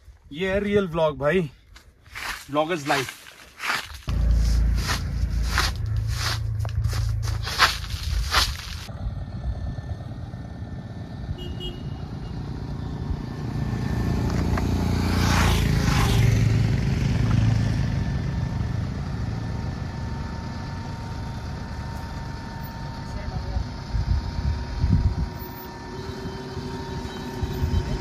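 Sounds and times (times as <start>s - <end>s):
engine low rumble: 3.8s - 28.0s.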